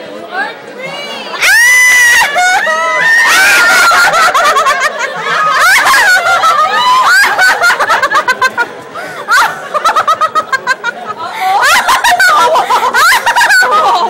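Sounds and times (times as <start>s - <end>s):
women laughing loudly: 1.4s - 14.0s.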